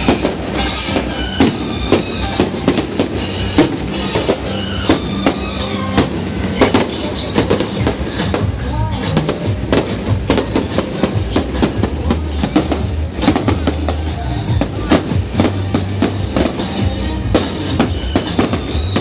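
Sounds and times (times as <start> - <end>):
firecrackers going off: 0.0 - 19.0.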